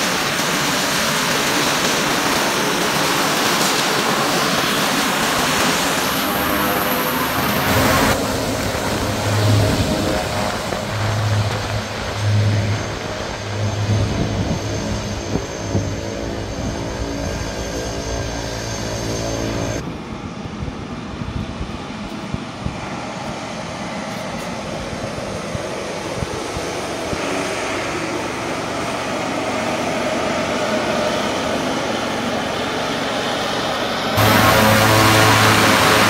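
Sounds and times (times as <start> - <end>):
turboprop plane engines: 0.0 - 36.0.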